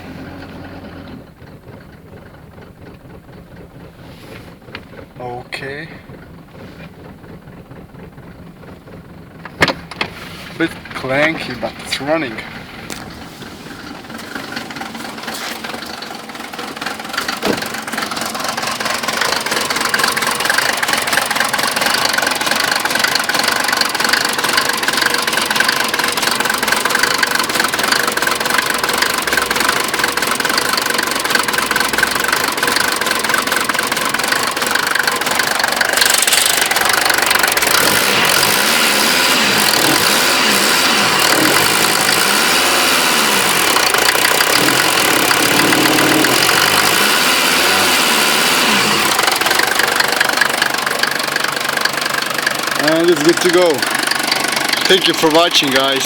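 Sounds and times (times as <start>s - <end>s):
diesel engine idling with knock: 0.0s - 56.0s.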